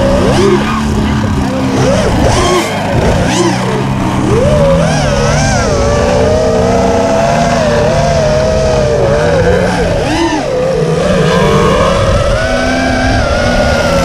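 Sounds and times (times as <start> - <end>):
drone motors whining: 0.0 - 14.0
model plane engine drone: 0.0 - 14.0.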